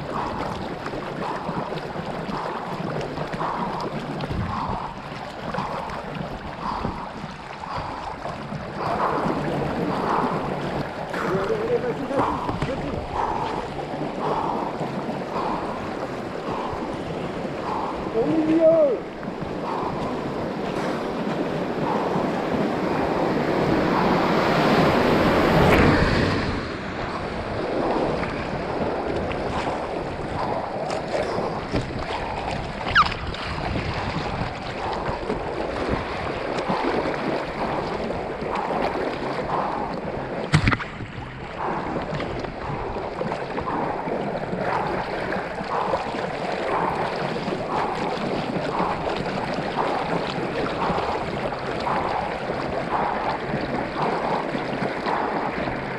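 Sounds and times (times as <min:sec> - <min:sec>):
river water rushing and splashing: 0:00.0 - 0:55.9.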